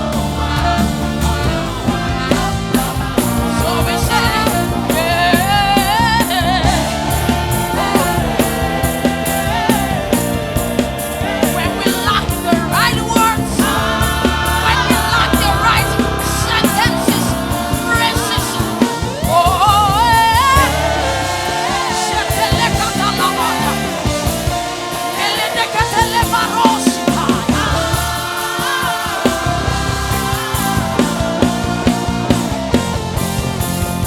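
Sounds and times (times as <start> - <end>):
person singing: 0.0 - 33.0
gospel worship music: 0.0 - 34.0.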